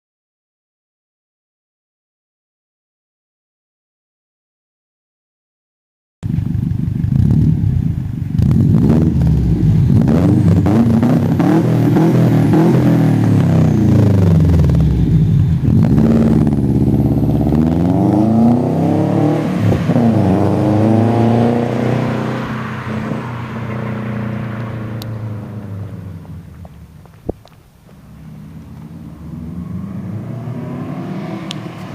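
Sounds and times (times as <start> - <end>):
car engine revving: 6.2 - 31.9.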